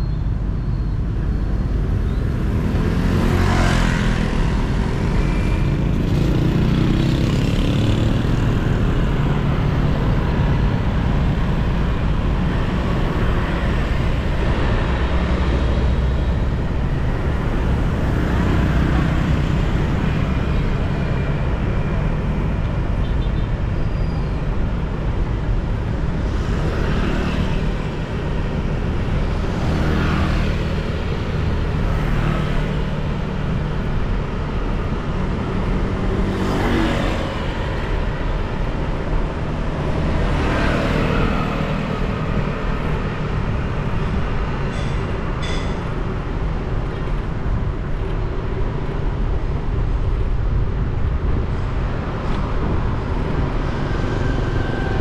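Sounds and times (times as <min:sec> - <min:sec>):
city road traffic rumble: 0:00.0 - 0:55.0
vehicles passing: 0:00.0 - 0:55.0.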